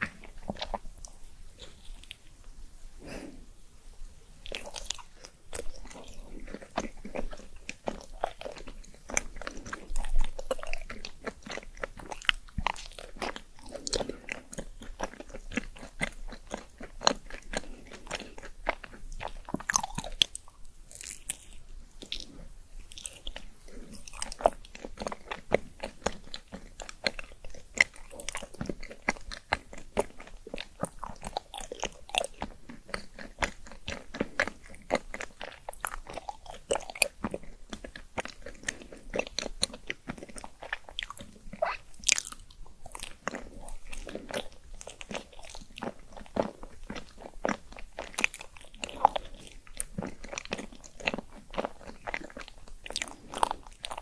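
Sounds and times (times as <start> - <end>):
chewing and crunching: 0.0 - 2.4, 4.2 - 54.0
mouth smacking: 4.4 - 54.0.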